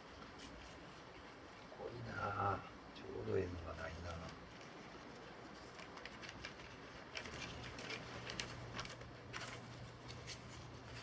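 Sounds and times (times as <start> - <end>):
clicks and rustles of handling: 0.0 - 1.8, 3.5 - 11.0
low steady hum: 0.0 - 11.0.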